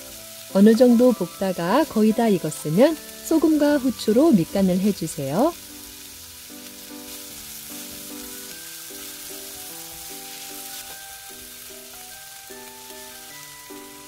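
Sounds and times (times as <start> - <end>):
light waltz music: 0.0 - 14.0
vegetables sizzling in a frying pan: 0.0 - 14.0.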